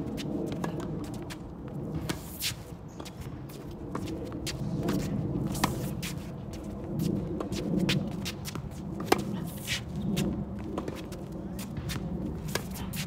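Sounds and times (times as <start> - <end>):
quick footsteps on court: 0.0 - 13.0.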